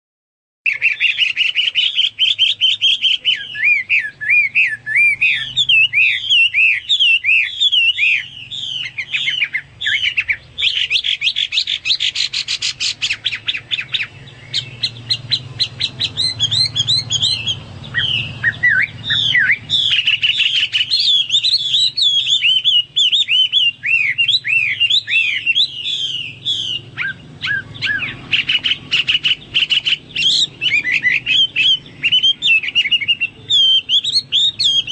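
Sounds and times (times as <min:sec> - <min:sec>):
bird singing whistled song: 0:00.7 - 0:34.9.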